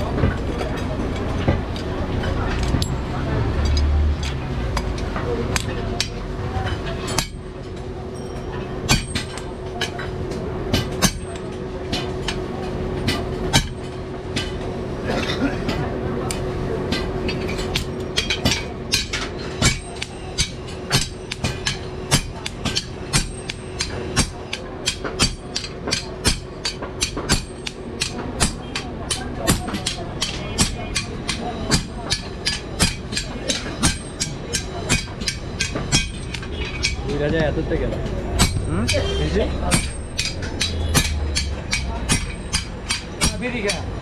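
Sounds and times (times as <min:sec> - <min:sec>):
hammer striking metal: 0:00.0 - 0:12.4, 0:13.0 - 0:14.6, 0:16.3 - 0:44.0.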